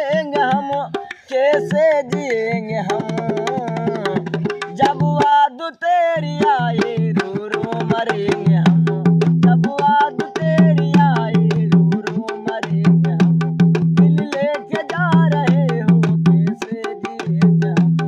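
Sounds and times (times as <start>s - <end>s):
hand drum rhythm: 0.0s - 18.0s
man singing: 0.0s - 18.0s.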